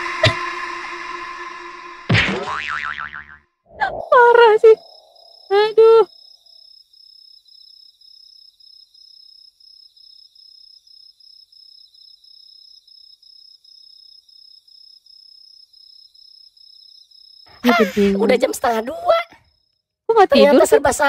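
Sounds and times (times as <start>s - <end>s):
crickets chirping: 3.7s - 21.0s.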